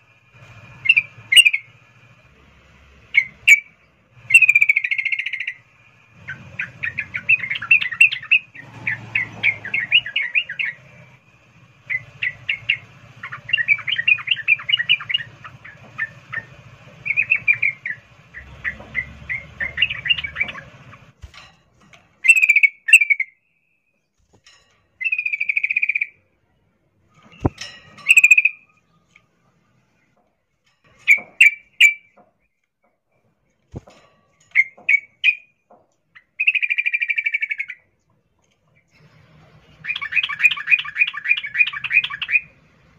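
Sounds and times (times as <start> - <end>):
bird chirping calls: 0.0 - 2.2, 3.0 - 21.2, 22.2 - 24.2, 25.0 - 29.4, 30.9 - 32.6, 33.6 - 42.9.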